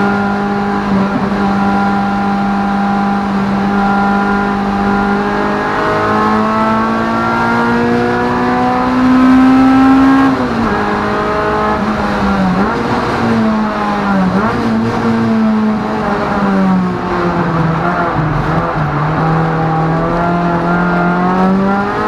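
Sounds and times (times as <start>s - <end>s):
car engine at high revs: 0.0s - 22.0s.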